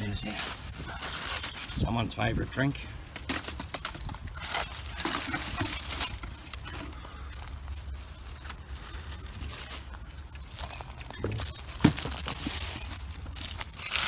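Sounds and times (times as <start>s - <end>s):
dry leaves rustling and crinkling: 0.0s - 14.0s.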